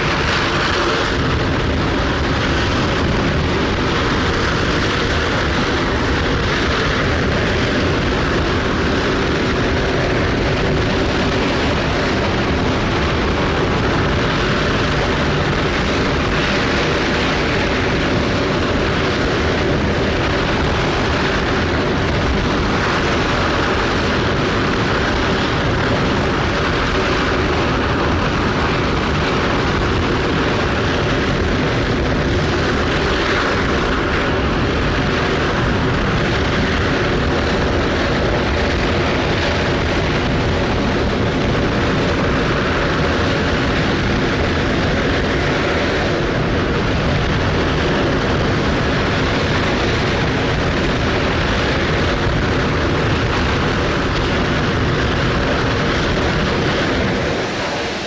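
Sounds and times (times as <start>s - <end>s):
rocket engine firing: 0.0s - 58.0s.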